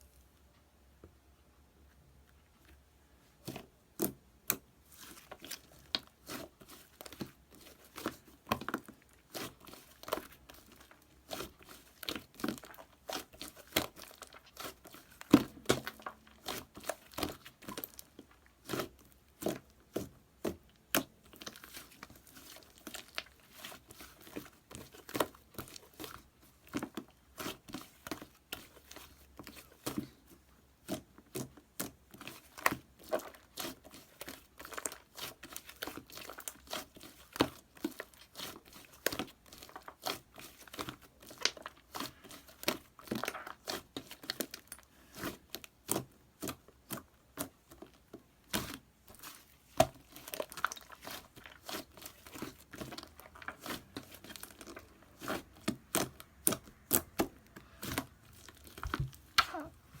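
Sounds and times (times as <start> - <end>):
hands squishing slime: 3.4 - 60.0.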